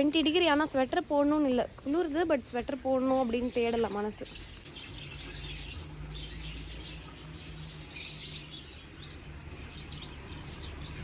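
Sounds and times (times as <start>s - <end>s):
small birds chirping and twittering: 0.0s - 11.0s.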